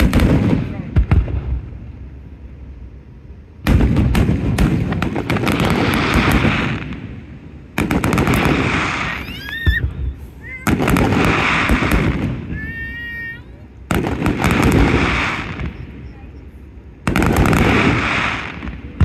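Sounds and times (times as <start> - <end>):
firework bangs: 0.0 - 2.4, 3.6 - 19.0
firework crackling: 0.0 - 19.0.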